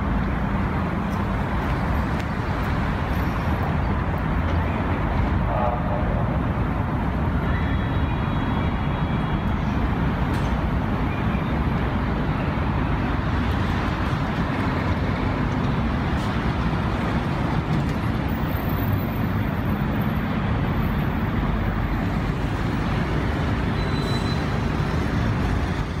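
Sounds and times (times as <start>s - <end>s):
city road traffic: 0.0s - 26.0s.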